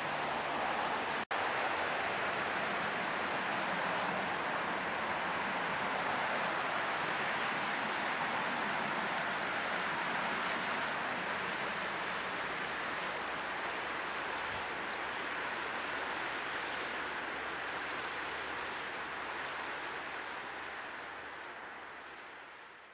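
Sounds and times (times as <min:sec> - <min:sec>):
fountain water splashing: 0:00.0 - 0:22.9.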